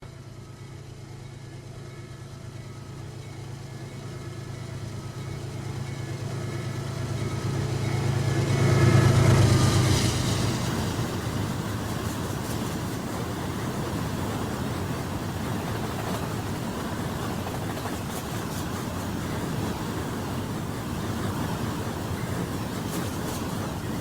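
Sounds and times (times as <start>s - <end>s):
diesel locomotive engine hum: 0.0s - 24.0s
train cars rolling on rails: 0.8s - 24.0s.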